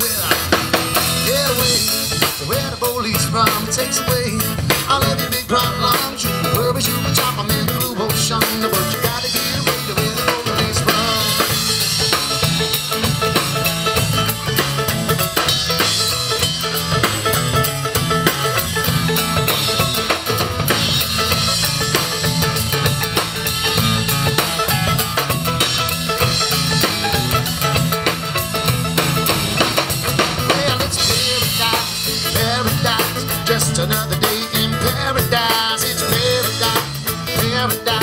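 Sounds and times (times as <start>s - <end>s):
drum kit beat: 0.0s - 38.0s
live band instrumental: 0.0s - 38.0s.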